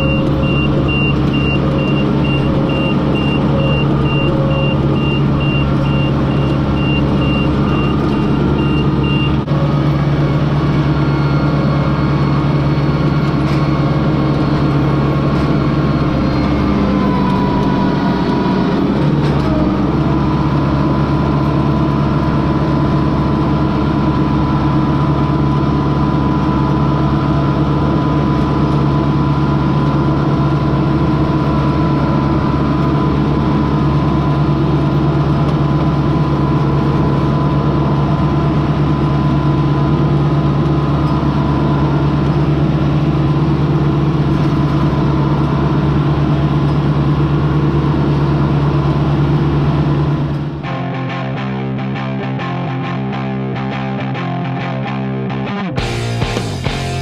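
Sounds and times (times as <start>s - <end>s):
tractor engine drone: 0.0s - 57.0s.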